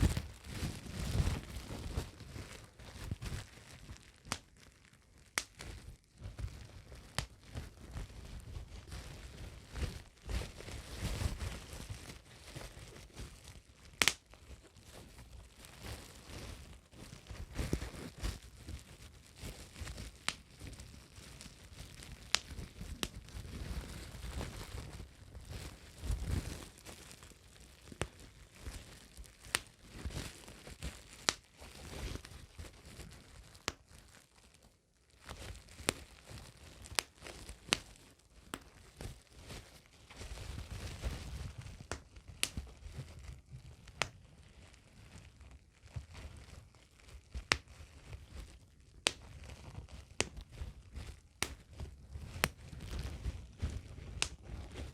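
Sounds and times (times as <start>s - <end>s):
bubble wrap crinkling: 0.0s - 54.9s
bubble wrap pops: 0.0s - 54.9s.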